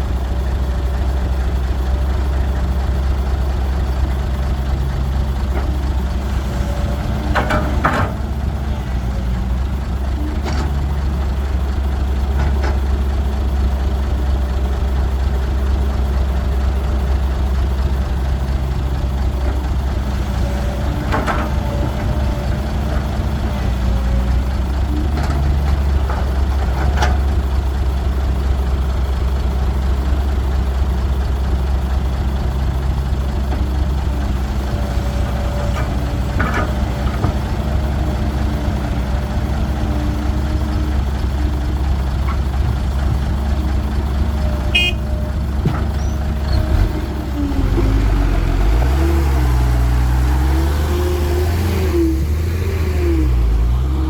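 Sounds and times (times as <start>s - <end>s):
excavator diesel engine humming: 0.0s - 54.0s.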